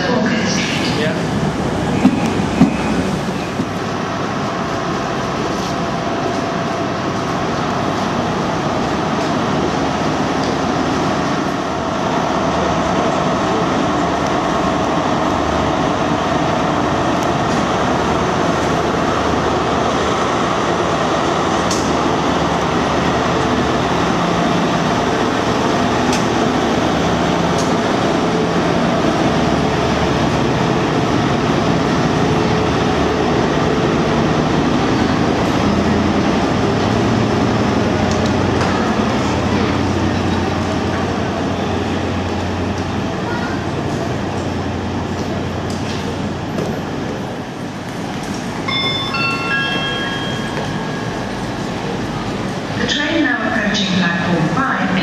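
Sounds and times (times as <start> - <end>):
diesel train engine drone: 0.0 - 55.0
train wheel and track noise: 0.0 - 55.0.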